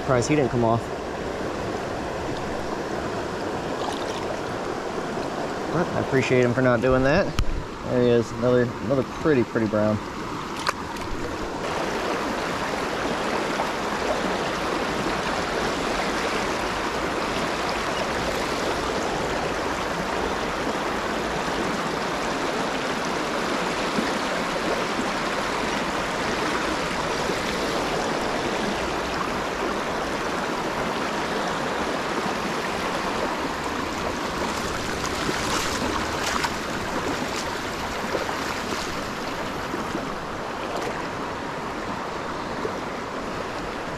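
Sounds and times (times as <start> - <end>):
stream rushing over stones: 0.0 - 43.9.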